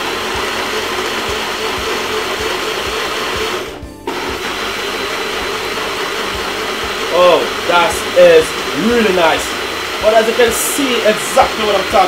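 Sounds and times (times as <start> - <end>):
blender running: 0.0 - 12.0.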